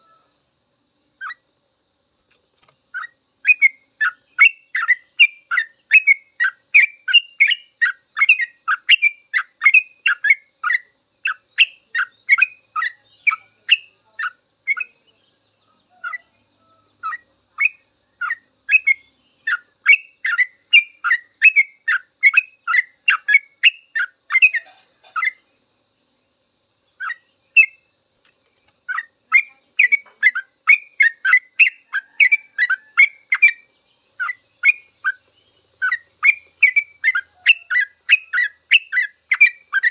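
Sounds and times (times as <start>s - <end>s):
bird singing chirpy notes: 2.6s - 39.9s.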